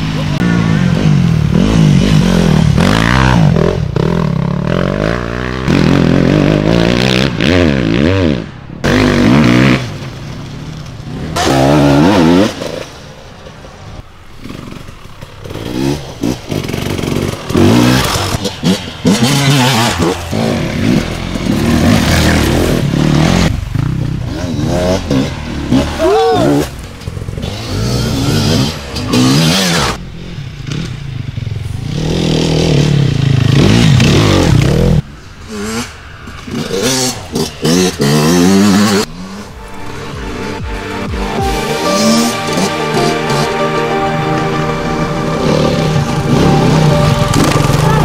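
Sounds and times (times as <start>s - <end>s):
dirt bikes revving: 0.0s - 43.8s.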